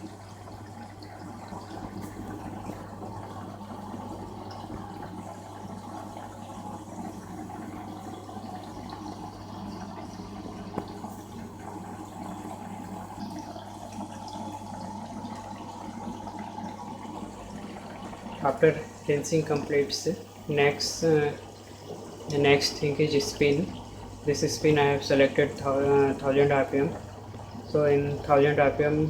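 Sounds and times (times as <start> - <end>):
washing machine hum: 0.0 - 29.0
water sloshing in washing machine: 0.0 - 29.0.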